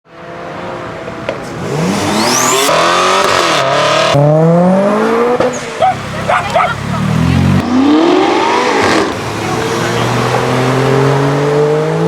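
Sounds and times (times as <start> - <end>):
car engine accelerating hard: 0.1 - 12.0.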